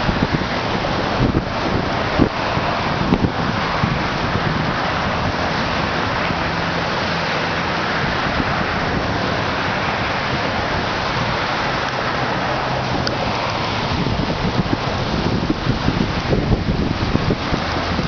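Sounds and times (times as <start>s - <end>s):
windstorm with rain: 0.0s - 18.0s.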